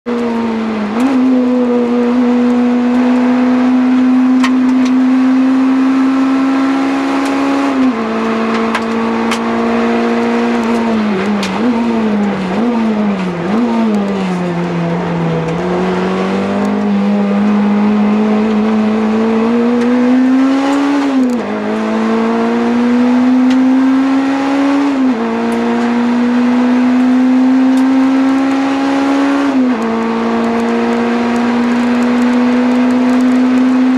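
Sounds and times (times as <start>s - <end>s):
car engine at full throttle: 0.0s - 33.9s.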